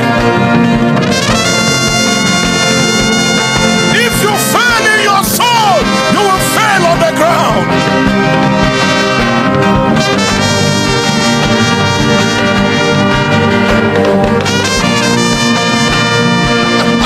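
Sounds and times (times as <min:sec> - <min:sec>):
brass chords over a beat: 0:00.0 - 0:17.0.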